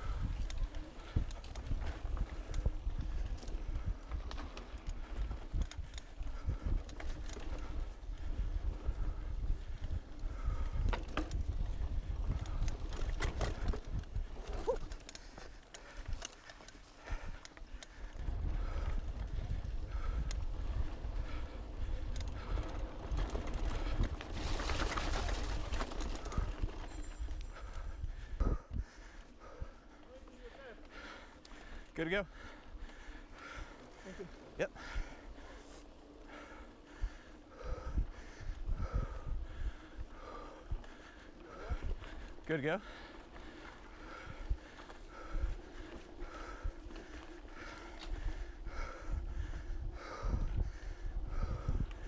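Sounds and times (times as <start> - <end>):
bike rolling low rumble: 0.0 - 30.2, 30.8 - 52.0
bike clicks and rattles: 0.0 - 52.0.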